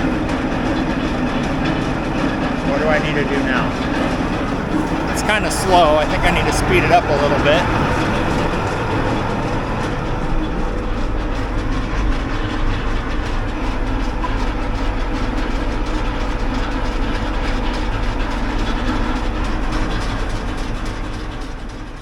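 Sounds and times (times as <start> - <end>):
grain auger rattling: 0.0 - 22.0
low machine hum: 0.0 - 22.0.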